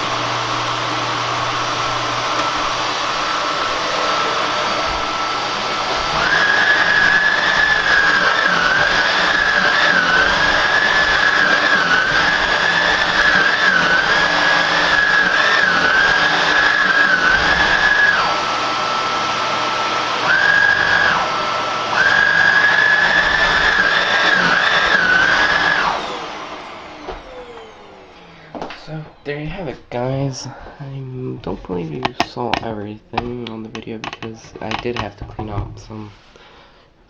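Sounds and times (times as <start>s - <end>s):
vacuum cleaner whine: 0.0s - 32.6s.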